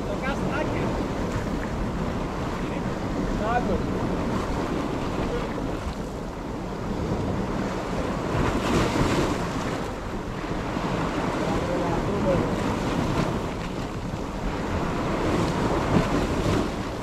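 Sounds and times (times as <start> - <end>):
waves breaking over rocks: 0.0 - 17.0
wind buffeting microphone: 0.0 - 17.0.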